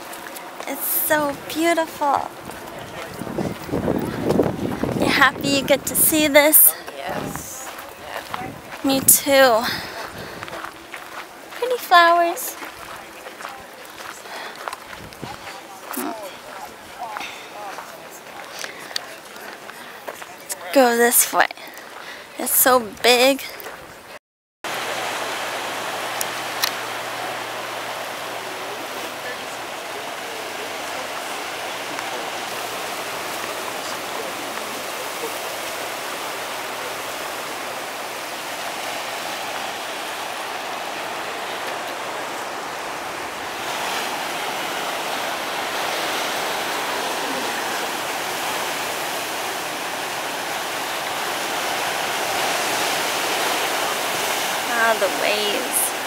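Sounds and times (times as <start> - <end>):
ocean surf breaking over rocks: 0.0 - 56.0.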